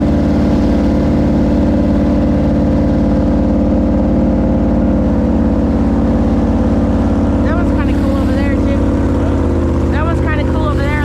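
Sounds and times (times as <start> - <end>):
jet boat engine drone: 0.0 - 11.0.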